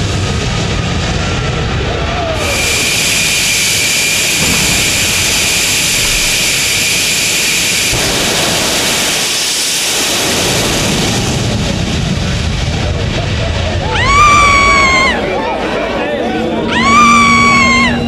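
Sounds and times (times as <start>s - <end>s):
jet turbine engine roaring: 0.0s - 18.0s
turbine whine: 0.0s - 18.0s.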